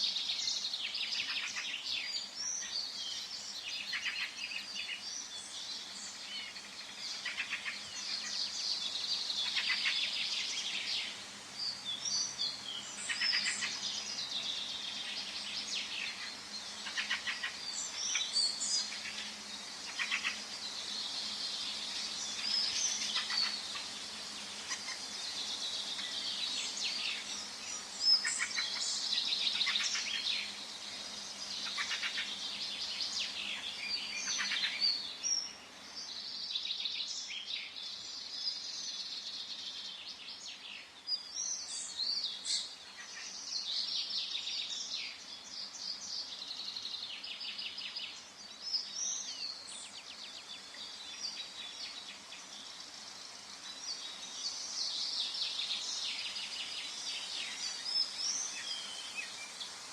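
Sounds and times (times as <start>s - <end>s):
birds singing and calling: 0.0s - 59.9s
faint background hiss: 0.0s - 59.9s.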